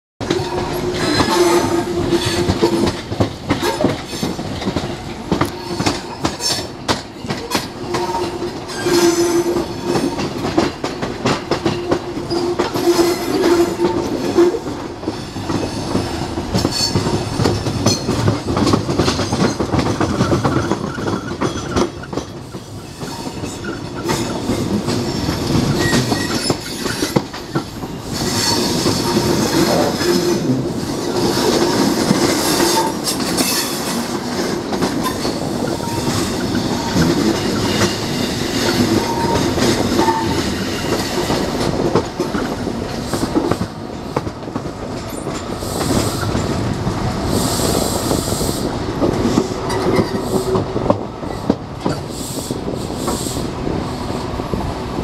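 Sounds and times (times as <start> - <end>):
train wheel clicks and clatter: 0.2 - 55.0.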